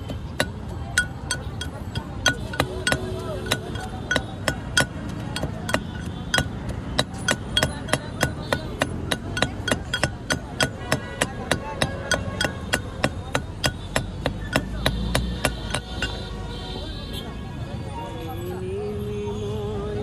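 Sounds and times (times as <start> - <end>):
pestle pounding in mortar: 0.0 - 16.3.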